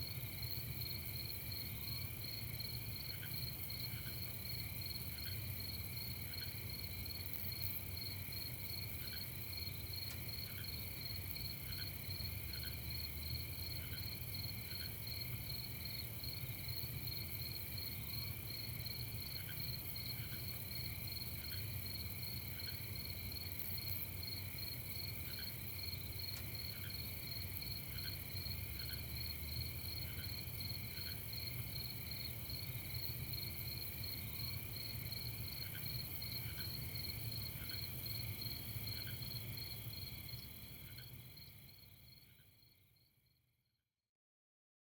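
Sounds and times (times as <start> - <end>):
crickets trilling: 0.1 - 42.0.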